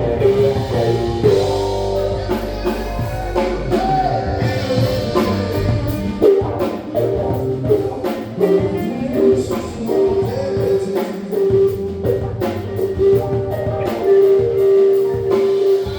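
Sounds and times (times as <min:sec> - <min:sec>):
person singing: 0:00.0 - 0:06.8, 0:07.7 - 0:15.9
drum kit: 0:00.0 - 0:15.9
electric guitar: 0:00.0 - 0:15.9.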